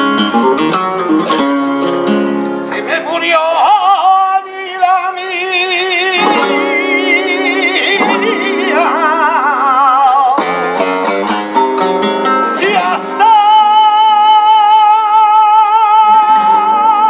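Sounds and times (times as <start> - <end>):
flamenco guitar: 0.0 - 17.0
man singing with vibrato: 2.6 - 17.0.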